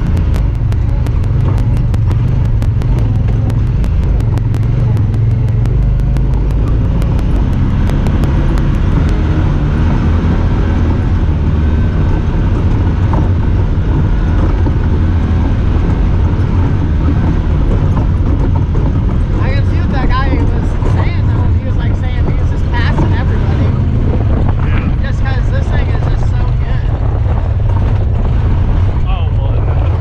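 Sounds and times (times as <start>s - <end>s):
fast regular ticking: 0.0s - 26.7s
drivetrain and ride noise: 0.0s - 30.0s
vehicle engine running: 0.0s - 30.0s.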